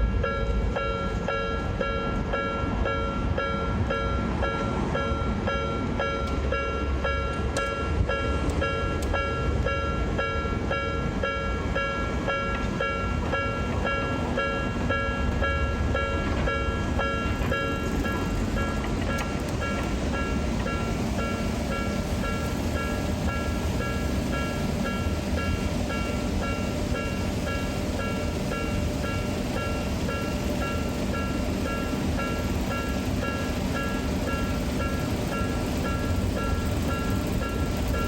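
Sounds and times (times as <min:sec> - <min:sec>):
train rumbling: 0:00.0 - 0:38.0
level-crossing alarm ringing: 0:00.1 - 0:38.0.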